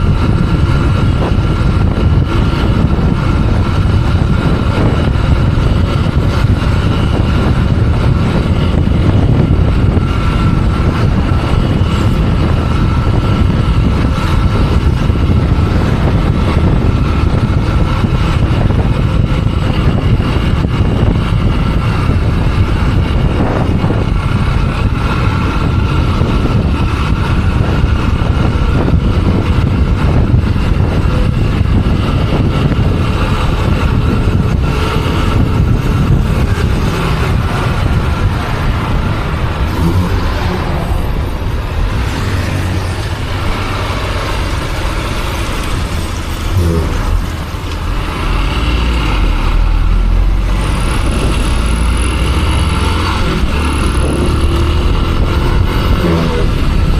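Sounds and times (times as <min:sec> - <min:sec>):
motorcycle engine running: 0:00.0 - 0:48.2
wind rushing on microphone: 0:00.0 - 0:56.9.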